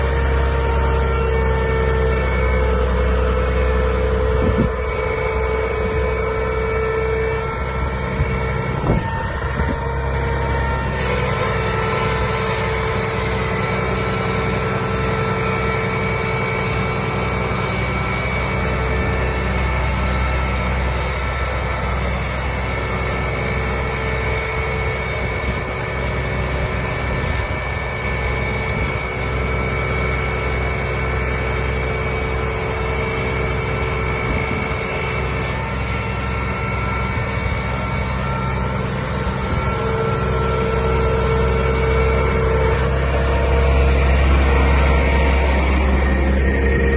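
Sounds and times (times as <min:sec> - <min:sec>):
fire truck engine running: 0:00.0 - 0:46.9.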